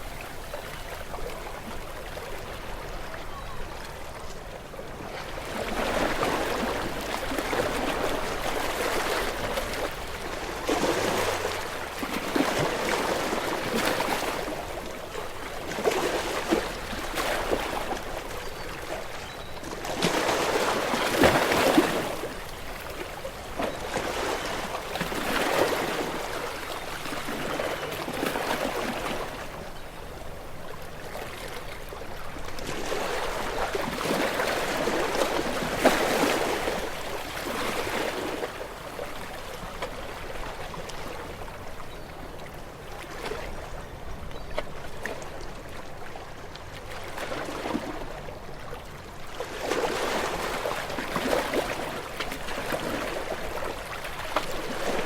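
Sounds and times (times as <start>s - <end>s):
sea waves lapping on shore: 0.0s - 55.0s.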